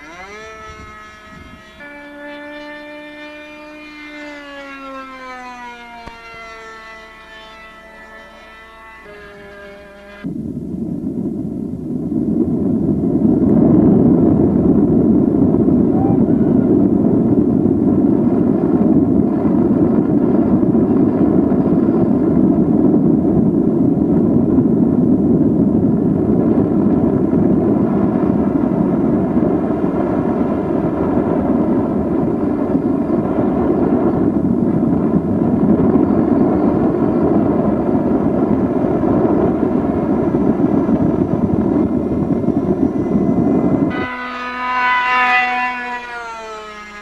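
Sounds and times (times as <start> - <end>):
model jet engine buzzing: 0.0 - 10.5, 12.0 - 47.0.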